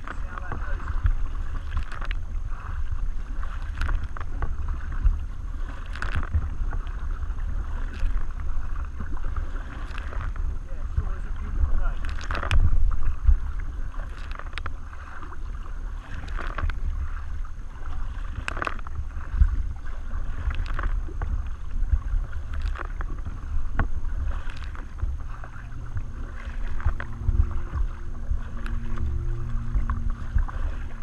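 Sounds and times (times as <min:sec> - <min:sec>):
paddle strokes splashing water: 0:00.0 - 0:31.0
wind buffeting microphone: 0:00.0 - 0:31.0.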